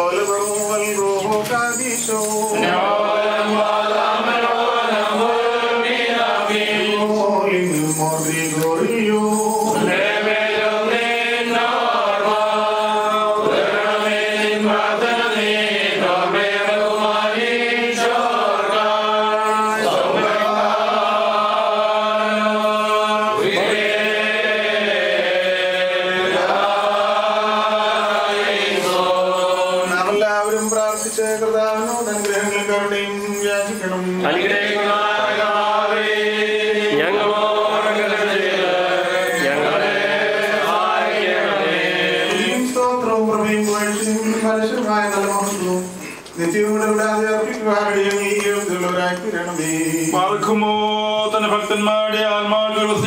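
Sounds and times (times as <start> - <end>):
men chanting a hymn: 0.0 - 53.0.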